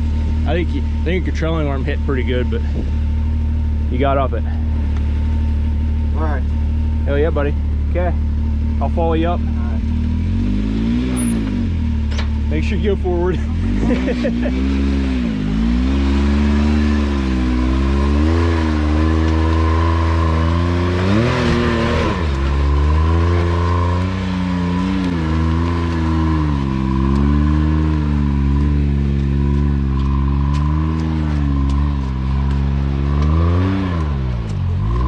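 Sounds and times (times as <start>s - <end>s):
off-road vehicle engine revving: 0.0s - 35.0s.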